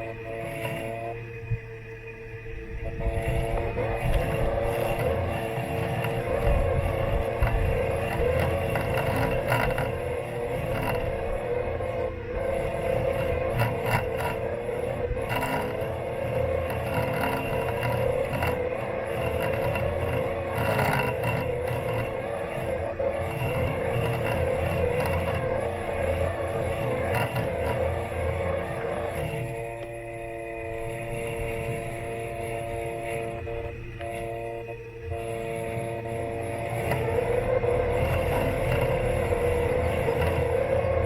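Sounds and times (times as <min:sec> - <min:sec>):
mower rumbling over lawn: 0:00.0 - 0:01.6, 0:02.3 - 0:41.0
robot lawn mower motors whining: 0:00.0 - 0:41.0.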